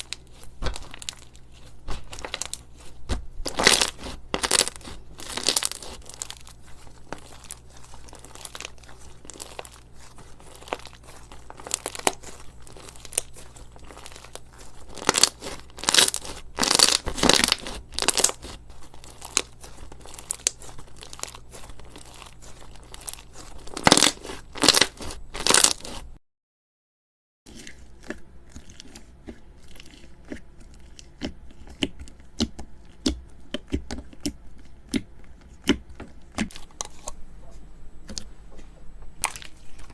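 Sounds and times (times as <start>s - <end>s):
crunchy slime crackling: 0.0s - 26.2s, 27.5s - 37.1s, 39.2s - 39.9s.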